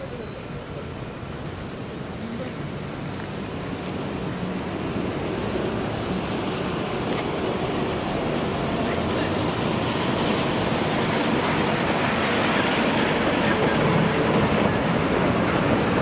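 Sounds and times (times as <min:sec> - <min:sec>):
diesel freight train approaching: 0:00.0 - 0:16.0.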